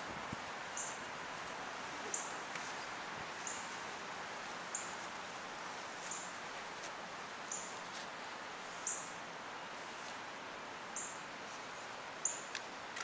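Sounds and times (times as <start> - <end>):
hiss of air and leaves: 0.0 - 13.0.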